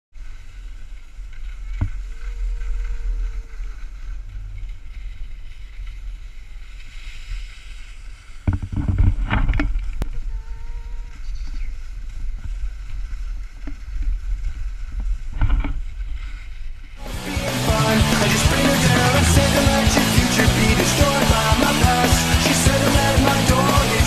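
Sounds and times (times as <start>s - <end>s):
skis hissing over snow: 0.2s - 8.5s, 9.9s - 24.0s.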